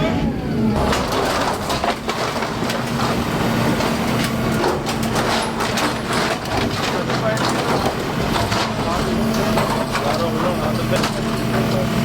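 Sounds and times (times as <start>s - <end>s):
bulldozer engine running: 0.0s - 12.0s
masonry cracking and crunching: 0.8s - 12.0s.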